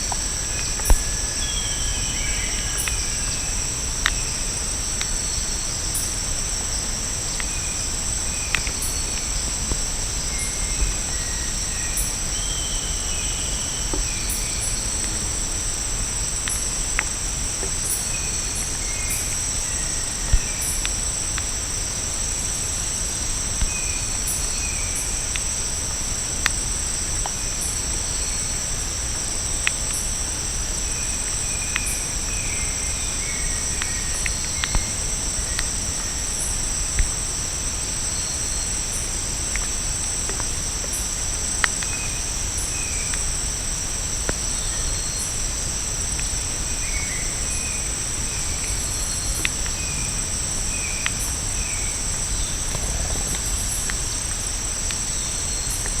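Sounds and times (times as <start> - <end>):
insects calling: 0.0 - 56.0.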